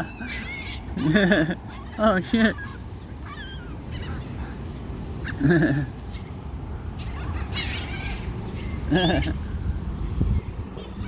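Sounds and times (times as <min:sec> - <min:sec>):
seagulls squawking: 0:00.0 - 0:11.0.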